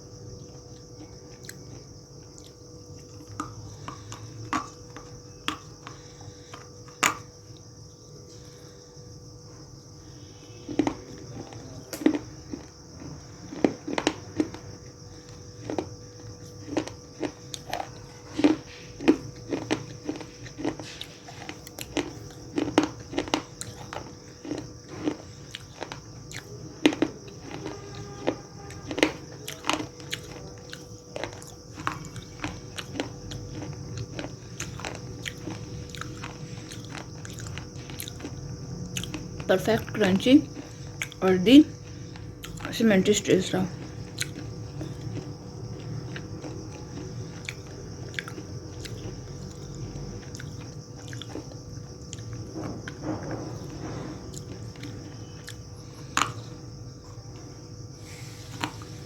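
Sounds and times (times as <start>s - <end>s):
crunchy clay being chewed: 0.0s - 59.0s.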